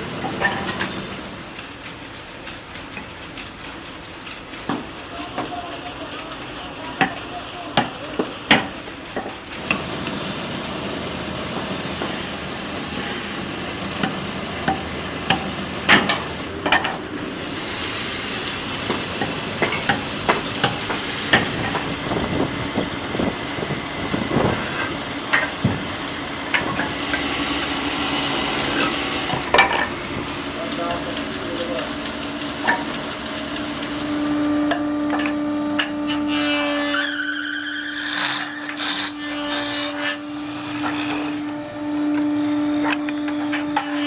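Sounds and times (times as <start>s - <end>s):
machine hum: 0.0s - 37.0s, 38.4s - 44.0s.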